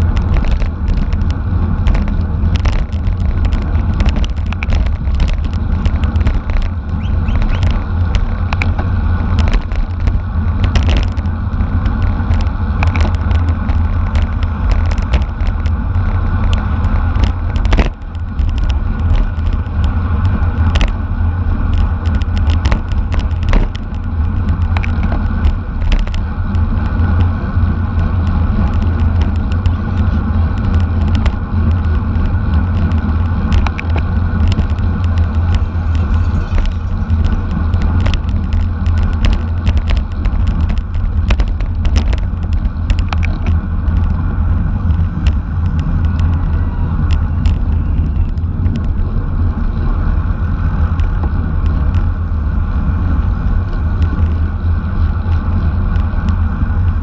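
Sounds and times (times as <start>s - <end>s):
road rumble: 0.0s - 57.0s
wind noise: 0.0s - 57.0s.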